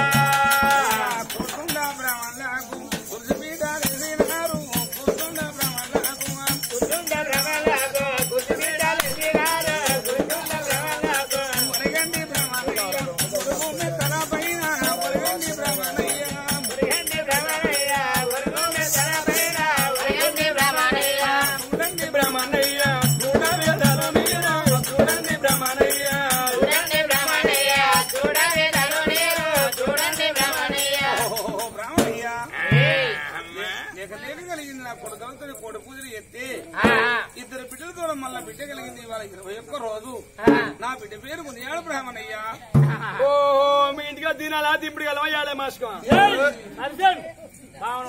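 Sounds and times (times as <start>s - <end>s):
jingling bells and cymbals: 0.0s - 43.2s, 43.8s - 48.0s.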